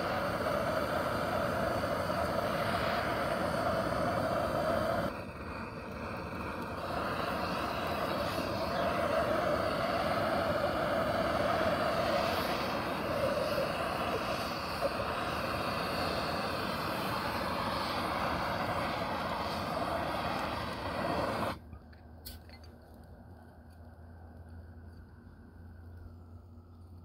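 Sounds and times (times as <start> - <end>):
blowtorch flame burning: 0.0 - 24.7.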